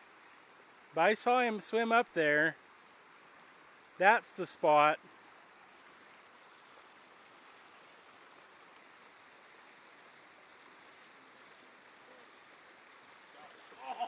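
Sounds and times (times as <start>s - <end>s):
creek running over riffle: 0.0s - 14.0s.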